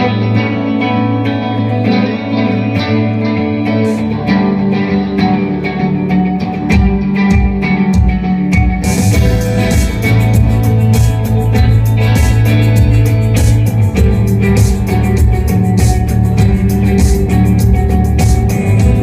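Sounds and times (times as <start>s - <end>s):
electric guitar playing chords: 0.0s - 19.0s
heavy low notes: 0.0s - 19.0s.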